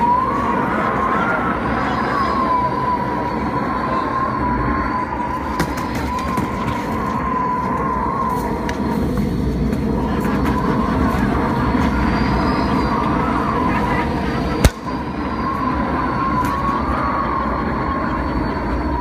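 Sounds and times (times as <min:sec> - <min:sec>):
high whistling tone: 0:00.0 - 0:19.0
wind roar: 0:00.0 - 0:19.0.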